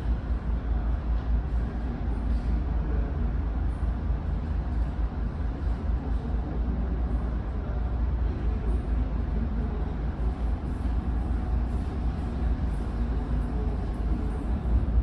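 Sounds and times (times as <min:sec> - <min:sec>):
ship engines low rumble: 0:00.0 - 0:15.0.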